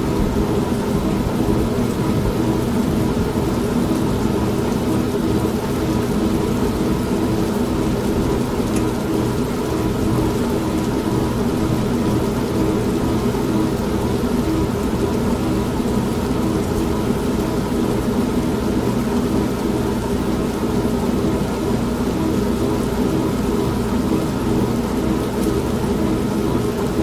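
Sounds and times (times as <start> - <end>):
heavy rain: 0.0 - 27.0
washing machine motor hum: 0.0 - 27.0.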